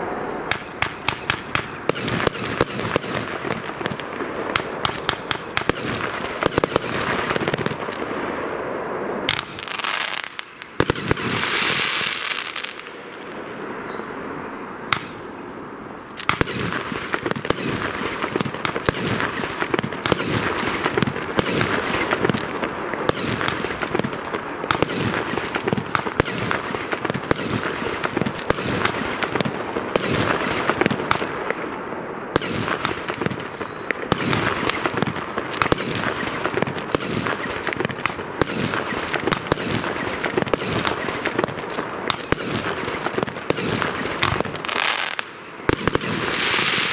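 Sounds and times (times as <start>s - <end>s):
fireworks launches and bursts: 0.0s - 15.3s, 16.1s - 46.9s
fireworks hiss and crackle: 0.0s - 46.9s.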